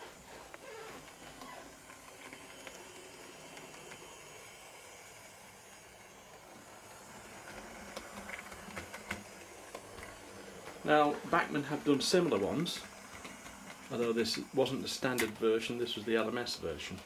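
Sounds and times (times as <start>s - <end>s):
model train motor whirring: 0.0s - 17.0s.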